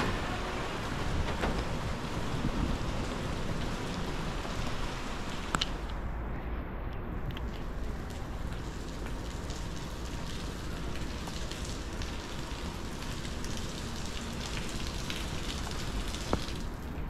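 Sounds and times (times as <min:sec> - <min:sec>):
rain on pavement: 0:00.0 - 0:06.5, 0:07.1 - 0:17.0.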